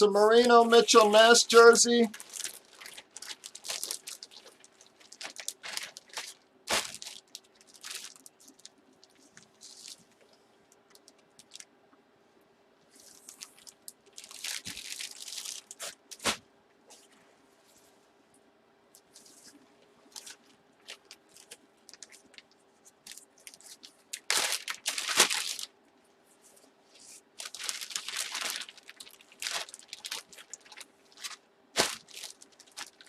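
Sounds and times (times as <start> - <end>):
plastic bags crinkling: 0.2 - 11.7, 12.9 - 16.4, 20.1 - 25.7, 27.0 - 33.0.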